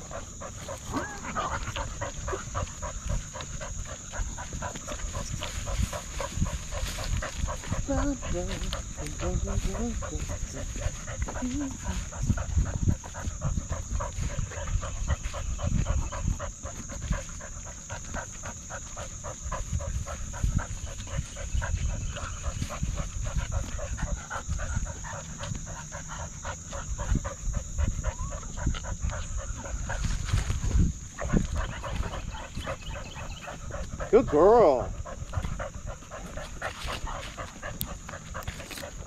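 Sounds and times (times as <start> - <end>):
dog panting: 0.0 - 39.0.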